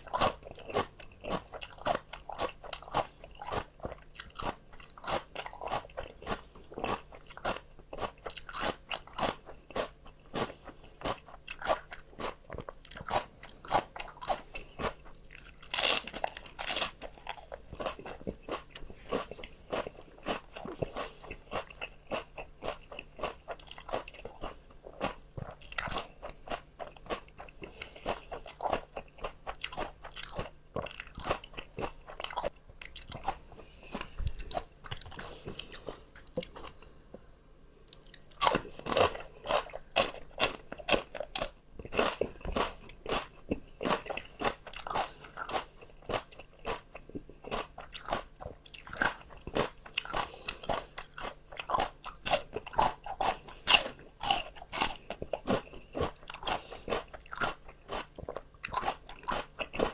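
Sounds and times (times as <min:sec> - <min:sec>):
crunchy vegetables being chewed: 0:00.0 - 0:59.9.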